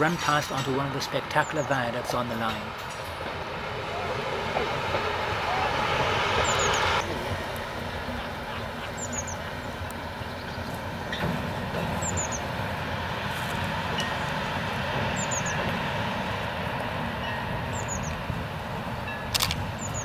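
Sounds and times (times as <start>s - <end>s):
diesel railcar rumbling: 0.0s - 20.0s.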